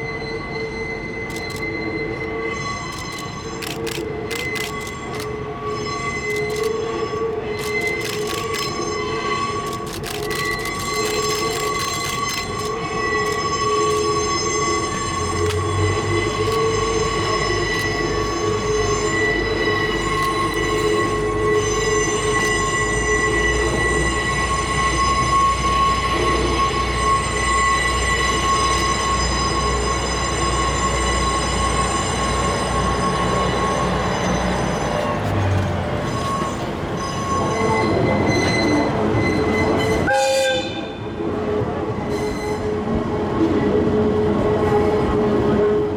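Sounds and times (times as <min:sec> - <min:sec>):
low train rumble: 0:00.0 - 0:45.9
train wheels squealing on rails: 0:00.0 - 0:45.9.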